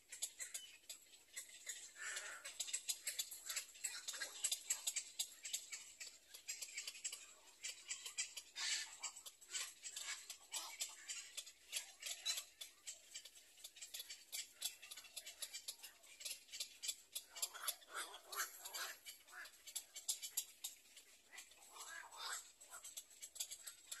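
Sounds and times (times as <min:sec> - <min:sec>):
heron chicks clicking calls: 0:00.0 - 0:24.0.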